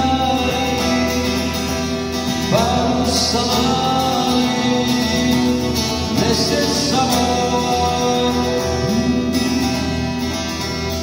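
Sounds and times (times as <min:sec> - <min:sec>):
person singing: 0:00.0 - 0:10.5
guitar: 0:00.0 - 0:11.0.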